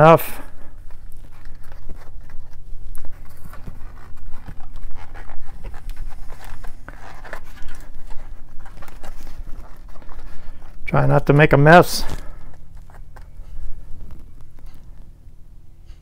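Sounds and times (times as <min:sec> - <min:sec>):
steady low hum: 0:00.0 - 0:16.0
hands rubbing bike tire: 0:00.1 - 0:15.2.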